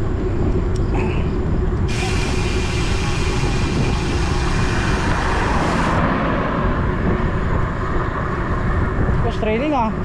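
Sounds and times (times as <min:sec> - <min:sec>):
road traffic: 0:00.0 - 0:10.0
wind rushing over microphone: 0:00.0 - 0:10.0.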